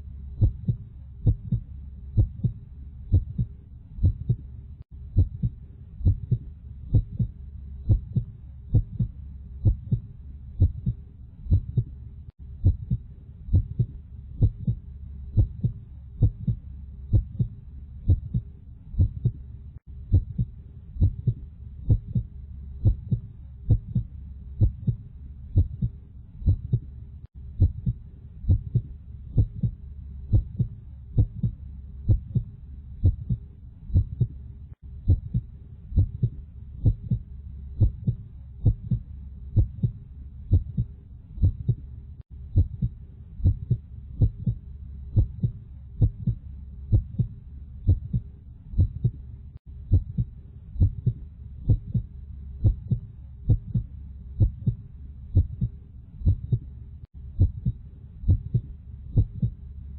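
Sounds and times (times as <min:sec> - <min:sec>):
heartbeat lub-dub: 0:00.0 - 0:59.9
steady low hum: 0:00.0 - 0:59.9.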